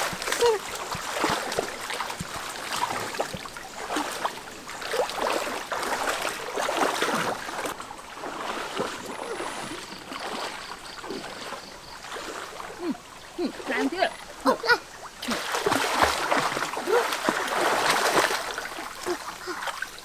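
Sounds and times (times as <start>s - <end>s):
water sloshing around wading legs: 0.0s - 20.0s.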